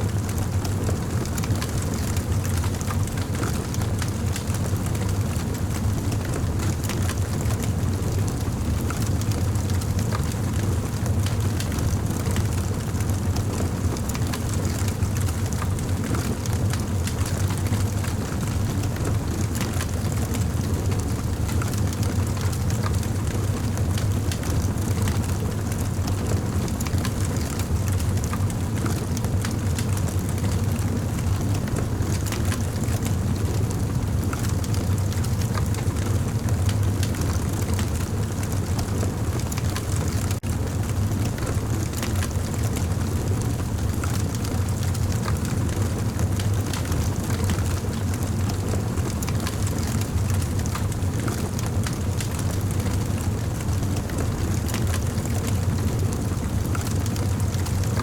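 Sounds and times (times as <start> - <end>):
low fire rumble: 0.0 - 58.0.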